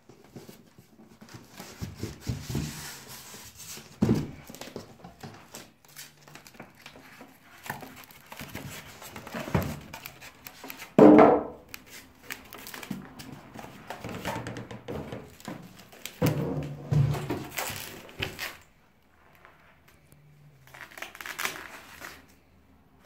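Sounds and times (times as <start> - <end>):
plastic wrap rustling: 0.0 - 11.0, 11.6 - 22.6.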